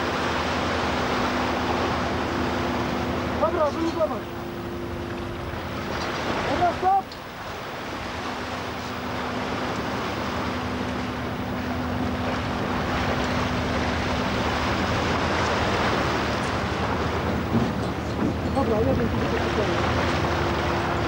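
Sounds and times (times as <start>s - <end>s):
low drone of ship engines: 0.0s - 21.0s
propeller wash rushing water: 0.0s - 21.0s
steady hum: 0.0s - 21.0s.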